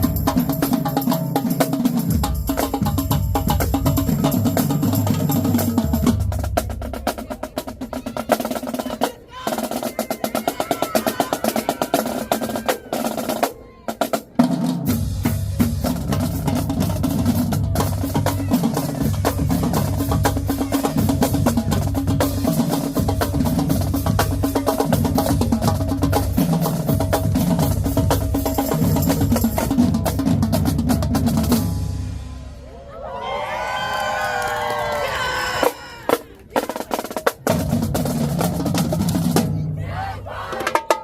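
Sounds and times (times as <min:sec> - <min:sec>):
snare and tenor drums: 0:00.0 - 0:32.4, 0:36.1 - 0:39.8.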